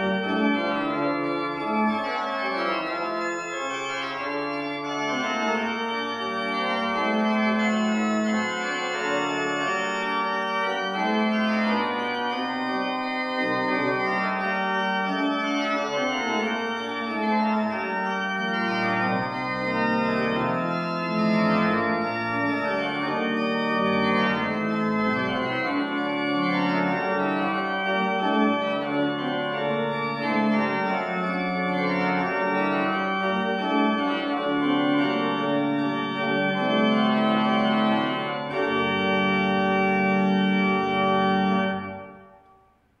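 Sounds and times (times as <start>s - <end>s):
pipe organ playing: 0.0s - 42.6s.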